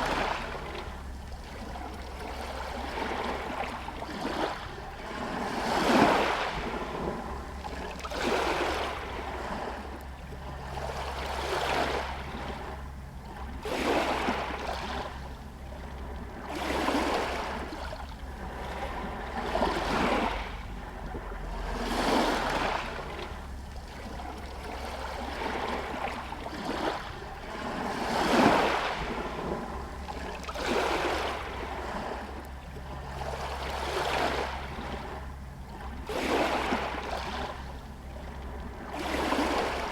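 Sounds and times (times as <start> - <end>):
waves lapping against stones: 0.0 - 39.9.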